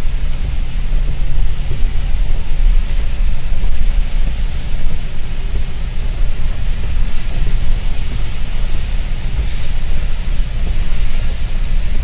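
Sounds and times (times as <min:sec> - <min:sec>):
rain and tyres hissing: 0:00.0 - 0:12.0
road rumble inside car: 0:00.0 - 0:12.0.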